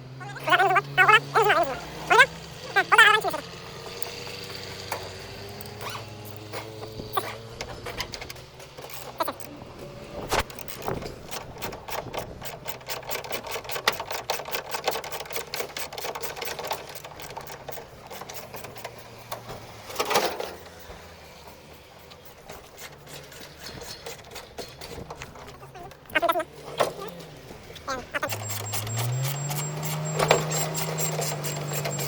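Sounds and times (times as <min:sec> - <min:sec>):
rapid mechanical clicking: 0:00.4 - 0:32.0.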